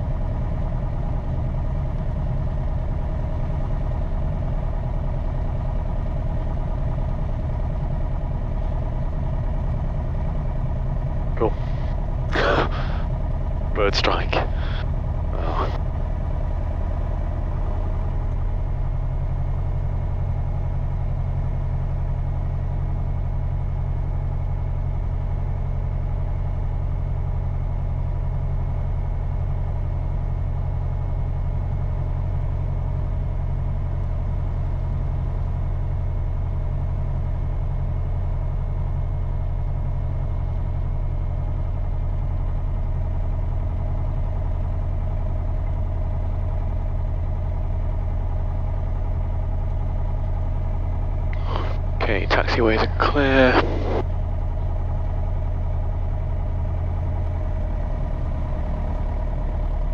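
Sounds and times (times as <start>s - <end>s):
piston aircraft engine idling: 0.0s - 59.9s.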